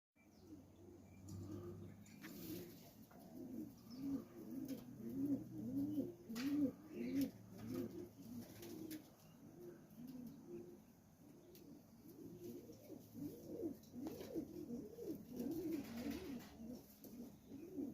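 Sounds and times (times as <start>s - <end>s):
pigeons cooing: 0.4s - 17.9s.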